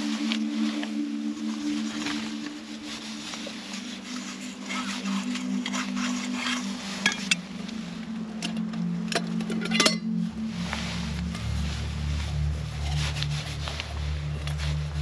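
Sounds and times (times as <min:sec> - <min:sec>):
gear and clothing rustling: 0:00.0 - 0:15.0
soft background music: 0:00.0 - 0:15.0.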